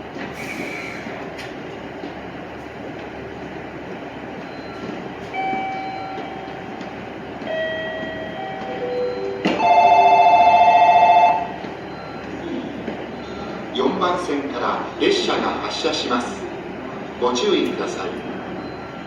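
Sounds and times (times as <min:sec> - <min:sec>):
rail station background noise: 0:00.0 - 0:19.0.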